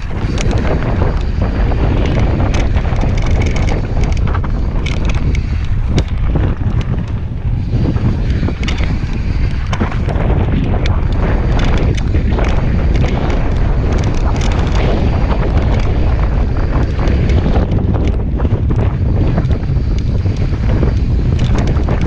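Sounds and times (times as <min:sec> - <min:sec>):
bike rattling over bumps: 0:00.0 - 0:22.0
bike tyres on gravel trail: 0:00.0 - 0:22.0
wind rushing over microphone: 0:00.0 - 0:22.0.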